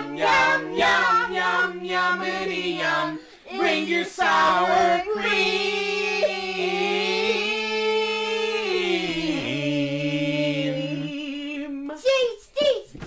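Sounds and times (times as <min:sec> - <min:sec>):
family singing together: 0:00.0 - 0:12.0.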